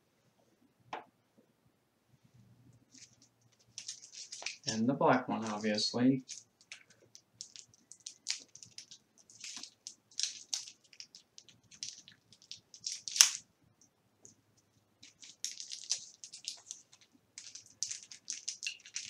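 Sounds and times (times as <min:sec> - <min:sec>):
candles crinkling and crackling: 0:02.8 - 0:13.5, 0:14.2 - 0:19.0.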